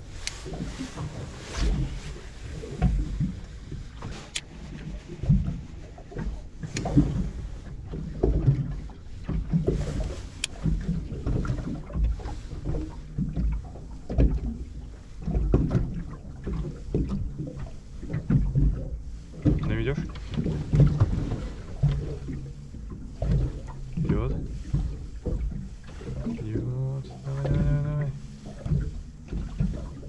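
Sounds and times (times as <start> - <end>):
waves slapping boat hull: 0.0 - 30.0
wind and water rumble: 0.0 - 30.0.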